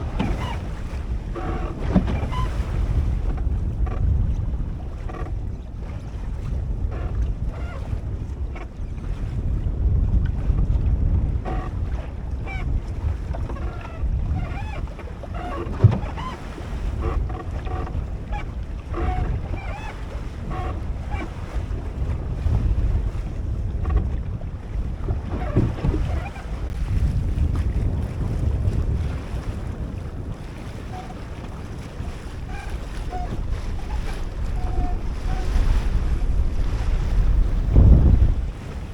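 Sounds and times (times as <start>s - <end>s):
water splashing along hull: 0.0s - 38.9s
wind buffeting microphone: 0.0s - 38.9s.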